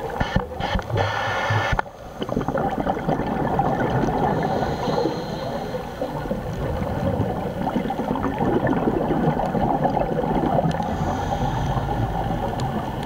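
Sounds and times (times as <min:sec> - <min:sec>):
underwater bubbling and gurgling: 0:00.0 - 0:13.0.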